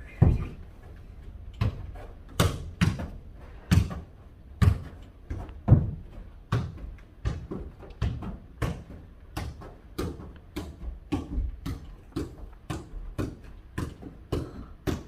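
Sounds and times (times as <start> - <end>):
ball being kicked: 1.6 - 15.0.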